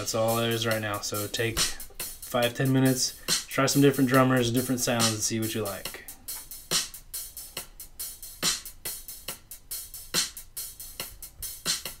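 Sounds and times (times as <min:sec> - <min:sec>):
laid-back drum groove: 0:00.0 - 0:12.0.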